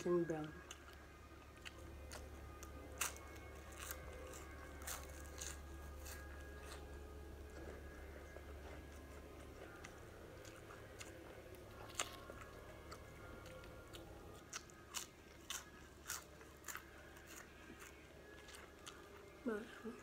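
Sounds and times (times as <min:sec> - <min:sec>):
crunching fried leaves: 0:01.6 - 0:19.4.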